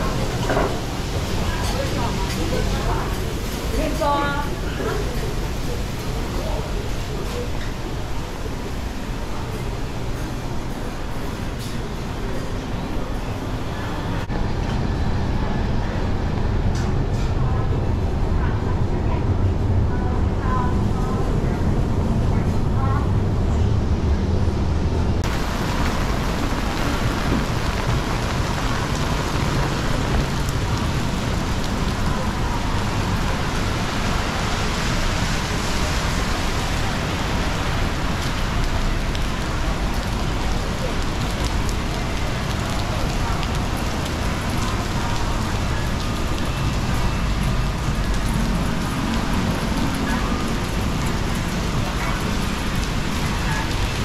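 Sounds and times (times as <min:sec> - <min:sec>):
rain hissing on street: 0:00.0 - 0:23.6, 0:25.2 - 0:54.0.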